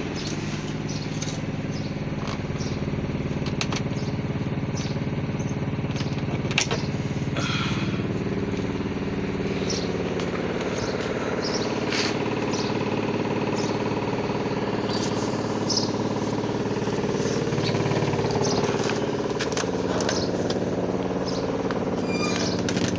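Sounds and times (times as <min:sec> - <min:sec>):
motor humming steadily: 0:00.0 - 0:22.9.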